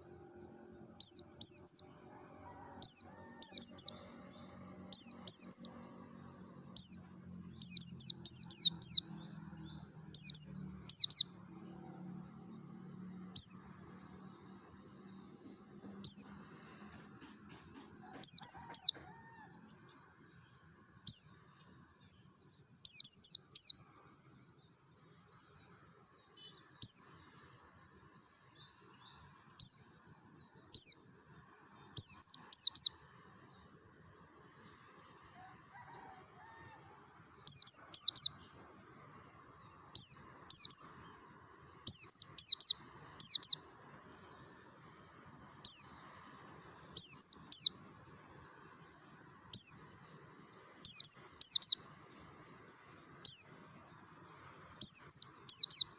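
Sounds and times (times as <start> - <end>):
bird chirping: 0.0 - 2.0, 2.8 - 23.9, 24.5 - 31.0, 31.7 - 33.7, 37.2 - 55.9.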